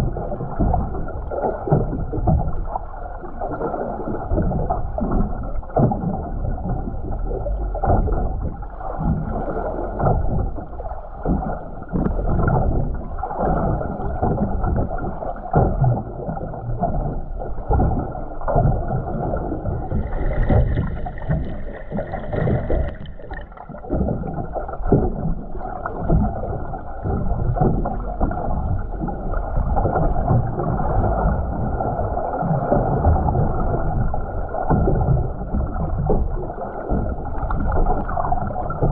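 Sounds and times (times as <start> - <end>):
underwater water rushing: 0.0 - 38.9.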